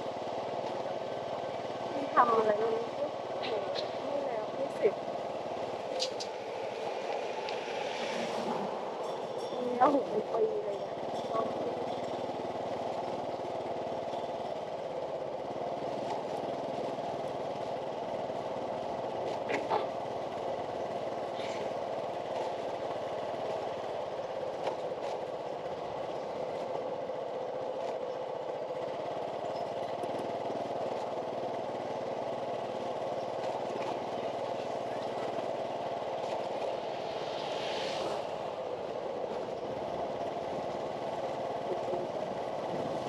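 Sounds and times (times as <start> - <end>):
distant traffic hum: 0.0 - 43.0.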